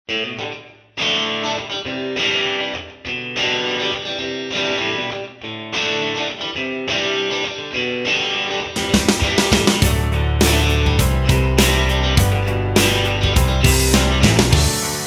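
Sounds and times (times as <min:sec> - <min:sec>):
strummed guitar chords: 0:00.1 - 0:15.0.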